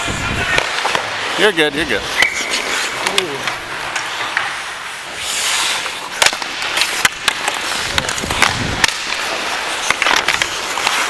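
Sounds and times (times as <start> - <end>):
hockey sticks and puck clacking: 0.0 - 11.0
skate blades scraping ice: 0.0 - 11.0.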